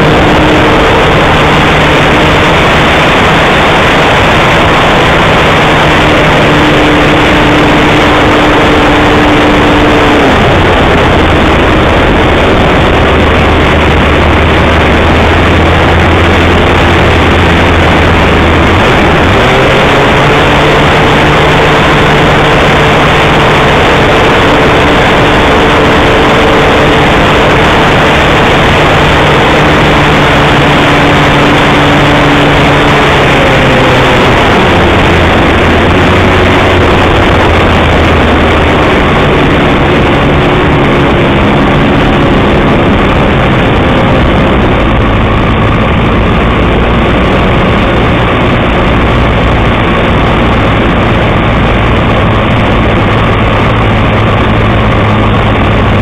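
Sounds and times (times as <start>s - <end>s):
model plane engine running: 0.0s - 56.0s
wind rush: 0.0s - 56.0s.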